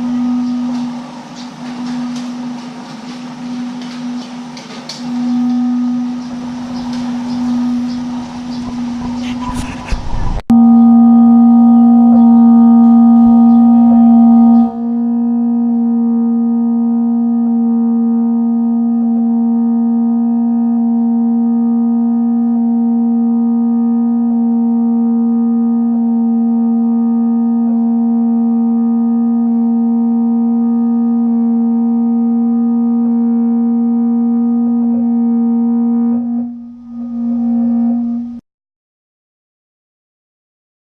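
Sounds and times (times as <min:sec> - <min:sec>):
gimbal motors humming: 0:00.0 - 0:38.4.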